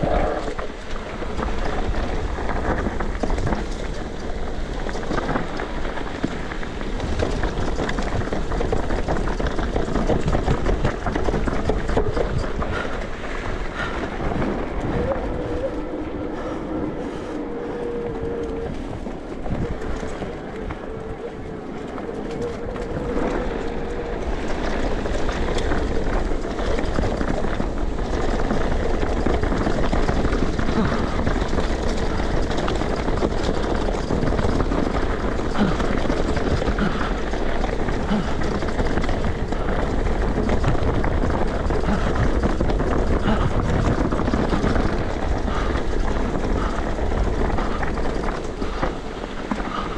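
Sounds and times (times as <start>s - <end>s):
bike rattling: 0.0s - 49.9s
tyres crunching over dirt: 0.0s - 49.9s
wind buffeting microphone: 0.0s - 49.9s.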